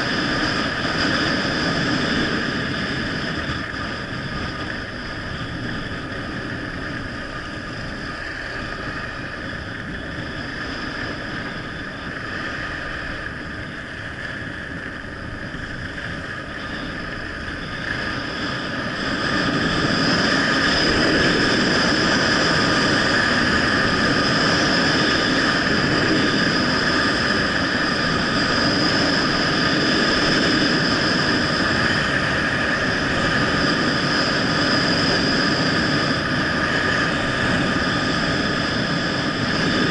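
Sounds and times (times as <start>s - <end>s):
wind roaring over camera: 0.0s - 39.9s.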